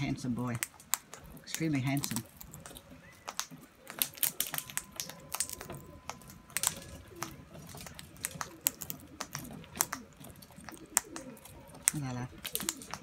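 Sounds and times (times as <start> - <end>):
beaks pecking at seed: 0.0 - 13.0.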